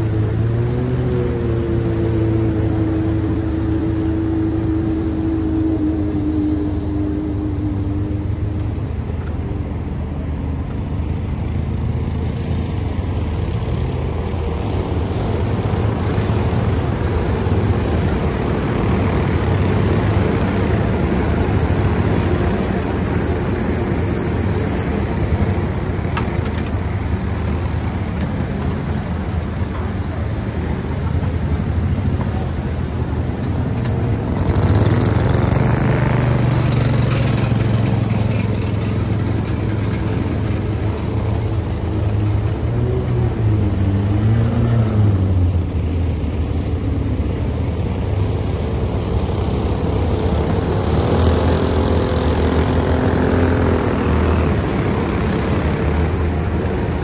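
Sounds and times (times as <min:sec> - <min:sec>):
kart engines running: 0:00.0 - 0:57.0
utility vehicle engine: 0:00.0 - 0:57.0.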